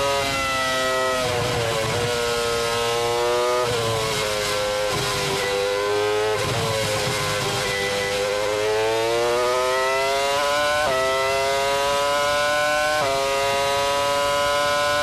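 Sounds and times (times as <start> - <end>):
racing car engine whine: 0.0 - 15.0.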